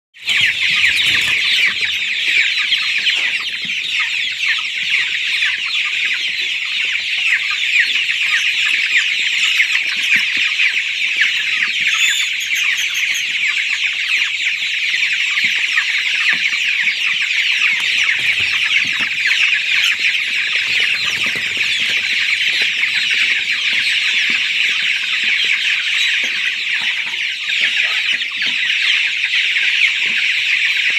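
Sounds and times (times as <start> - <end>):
chicks peeping: 0.2 - 30.9.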